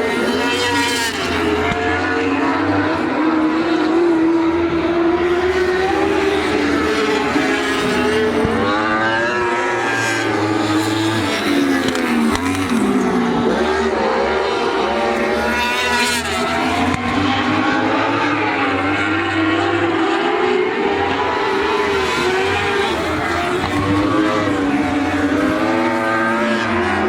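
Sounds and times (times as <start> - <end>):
racing car engines revving: 0.0 - 27.0.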